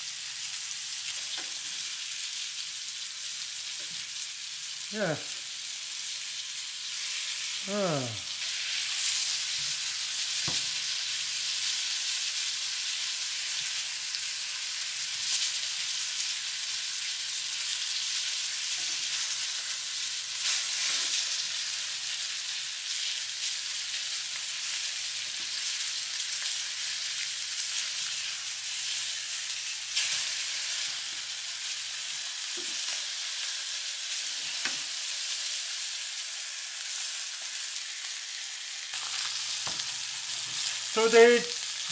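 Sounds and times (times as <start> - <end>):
fish sizzling in hot oil: 0.0 - 41.9.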